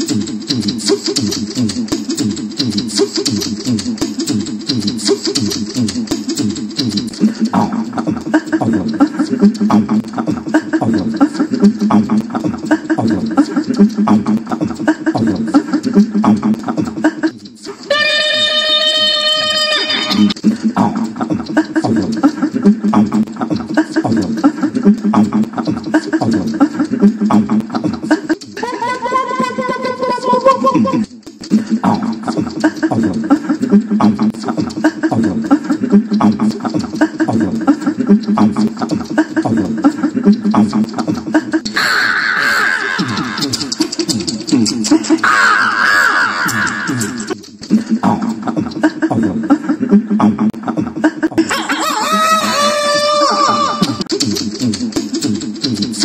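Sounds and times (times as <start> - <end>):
vocal percussion beat: 0.0 - 56.0.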